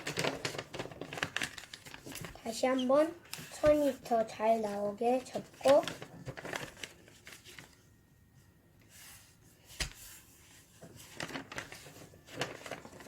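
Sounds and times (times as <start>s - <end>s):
paper rustling: 0.0s - 7.9s, 8.8s - 13.0s.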